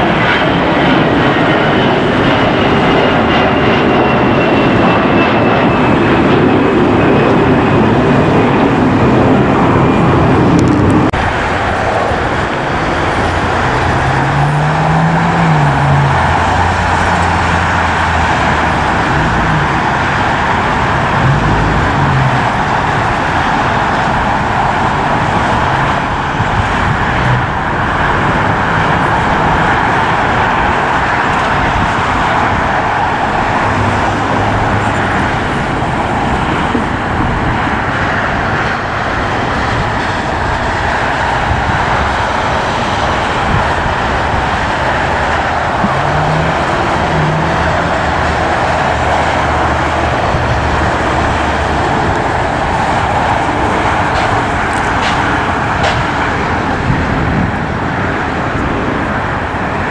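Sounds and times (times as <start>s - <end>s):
jet engines roaring: 0.0s - 59.9s
road traffic roar: 0.0s - 59.9s.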